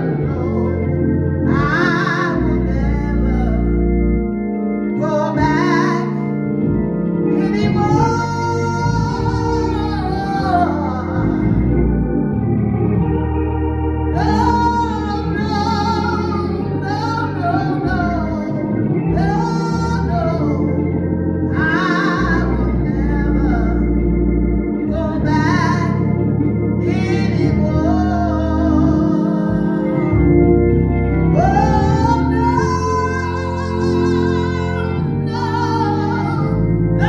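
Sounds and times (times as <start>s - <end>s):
woman singing gospel: 0.0s - 4.2s, 4.9s - 6.6s, 7.2s - 11.9s, 14.1s - 30.4s, 31.2s - 37.0s
organ chords: 0.0s - 37.0s.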